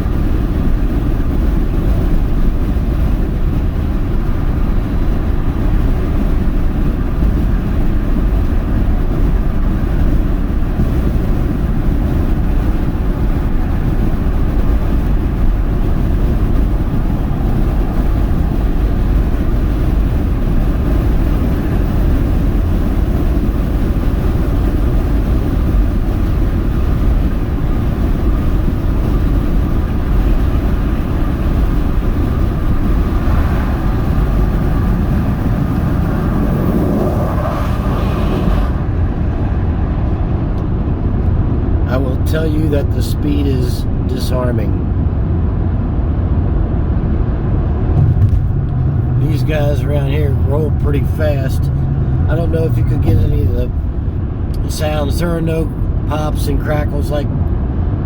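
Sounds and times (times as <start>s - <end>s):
road and wind noise in car: 0.0s - 58.0s.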